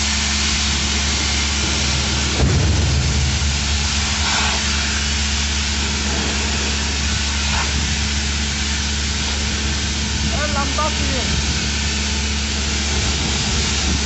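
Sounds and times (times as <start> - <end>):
machinery drone with low hum: 0.0 - 14.0.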